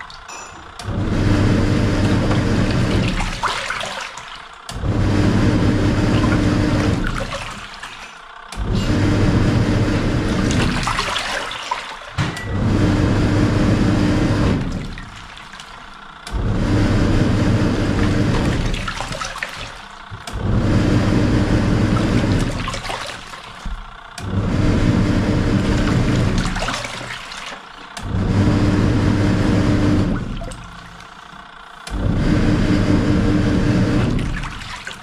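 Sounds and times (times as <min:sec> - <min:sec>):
washing machine motor churning water: 0:00.0 - 0:35.0.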